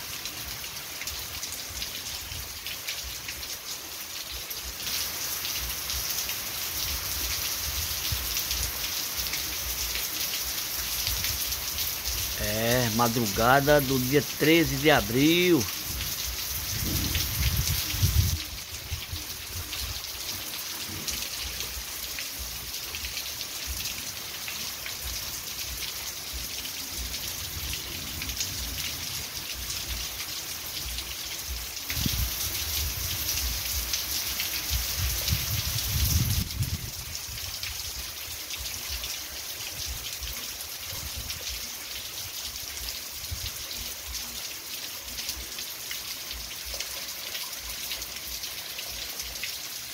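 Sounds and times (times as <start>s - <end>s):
heavy rain pouring off roof: 0.0s - 49.9s.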